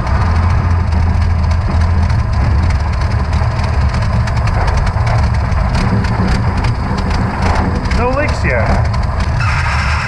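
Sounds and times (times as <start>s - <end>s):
car engine idling: 0.0s - 10.0s
engine ticking: 0.0s - 10.0s.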